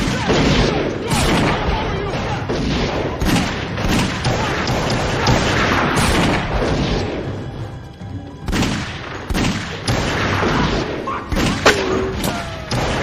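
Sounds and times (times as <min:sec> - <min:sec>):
gunshots in bursts: 0:00.0 - 0:07.8, 0:08.4 - 0:13.0
film score music: 0:00.0 - 0:13.0.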